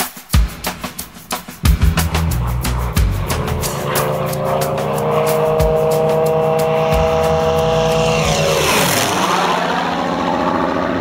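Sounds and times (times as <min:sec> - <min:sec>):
propeller aircraft flying past: 0:01.7 - 0:11.0.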